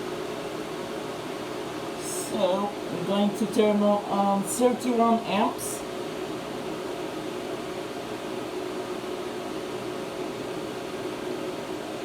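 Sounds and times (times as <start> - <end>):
welding machine cooling fan humming: 0.0 - 12.0.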